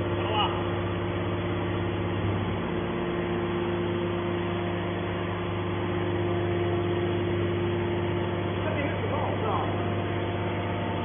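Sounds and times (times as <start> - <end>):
hydraulic power unit humming: 0.0 - 11.0.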